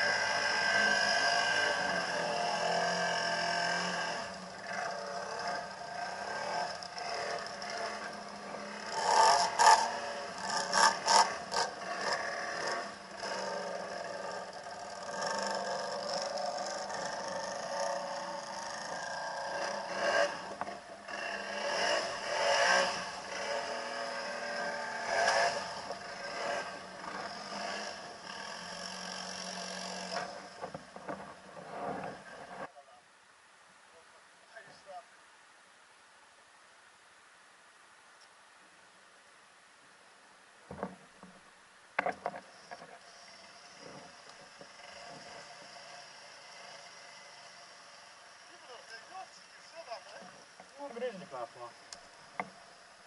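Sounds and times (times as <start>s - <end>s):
atv engine revving: 0.0s - 32.7s, 42.0s - 53.0s.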